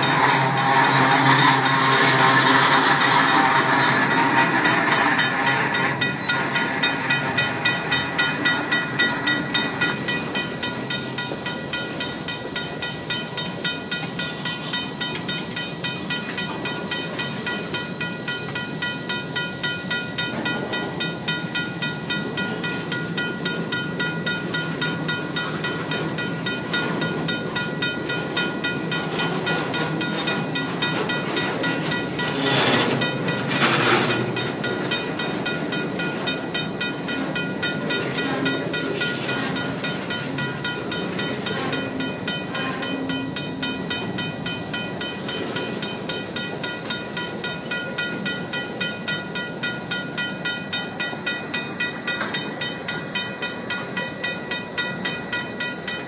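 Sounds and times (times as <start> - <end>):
mechanical crossing bell ringing: 0.0 - 56.0.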